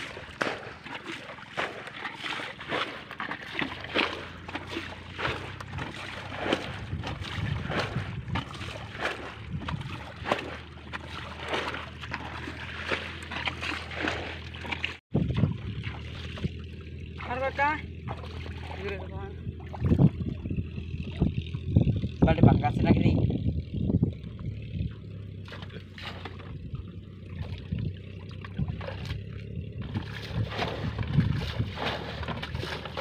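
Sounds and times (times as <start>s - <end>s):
muddy water splashing: 0.0s - 22.9s, 23.7s - 33.0s.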